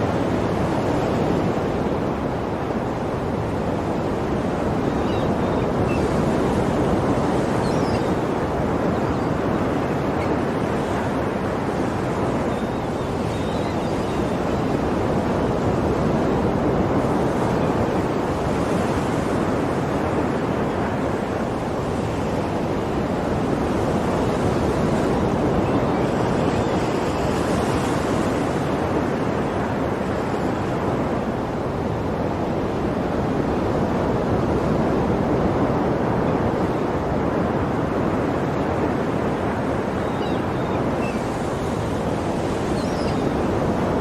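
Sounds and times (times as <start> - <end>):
ocean waves washing onto shore: 0.0 - 44.0.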